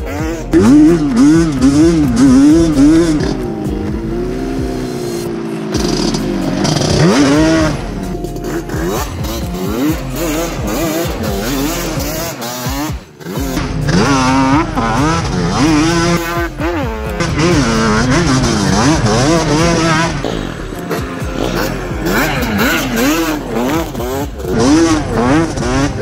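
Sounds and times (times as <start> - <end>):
two-stroke quad engine revving: 0.0 - 26.0.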